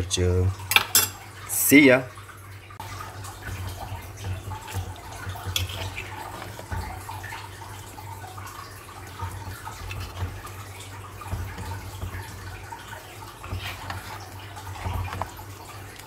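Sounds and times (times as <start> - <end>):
water trickling and dripping: 0.0 - 16.0.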